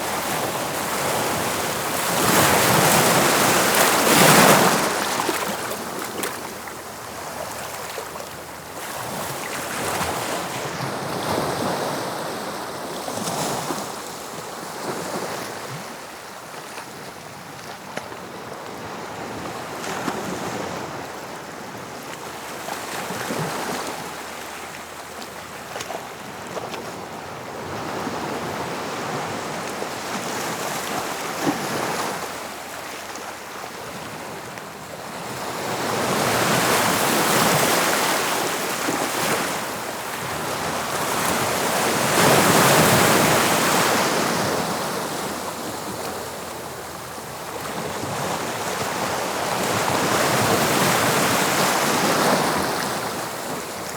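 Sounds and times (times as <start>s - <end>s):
sea waves breaking on shore: 0.0s - 16.0s, 19.7s - 53.9s.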